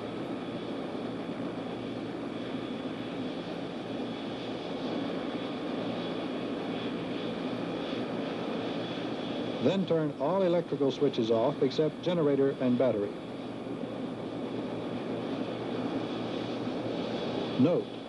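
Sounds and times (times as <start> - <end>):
helicopter engine idling: 0.0 - 18.0.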